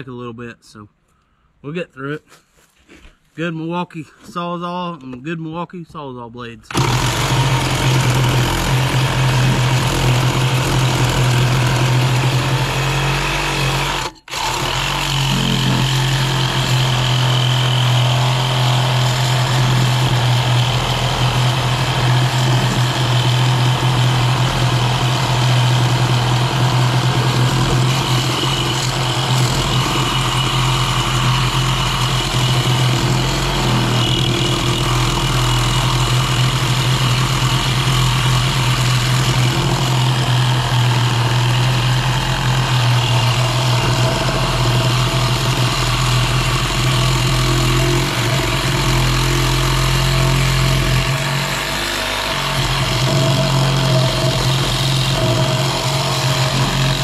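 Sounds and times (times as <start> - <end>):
reciprocating saw cutting steel: 6.7 - 57.0.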